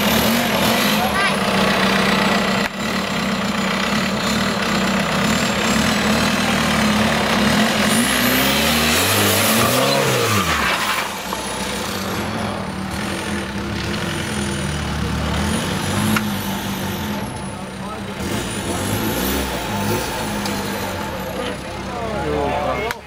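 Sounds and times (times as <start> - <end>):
buggy engine running under load: 0.0 - 23.0.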